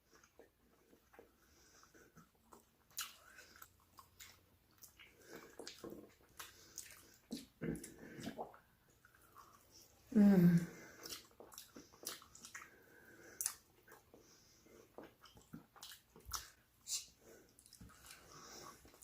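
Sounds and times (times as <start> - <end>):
mouth chewing clicks and smacks: 0.0 - 9.8, 10.9 - 19.0.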